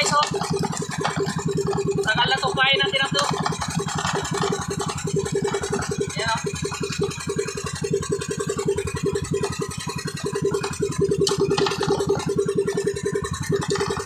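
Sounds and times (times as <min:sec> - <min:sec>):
small boat engine chugging: 0:00.0 - 0:14.0.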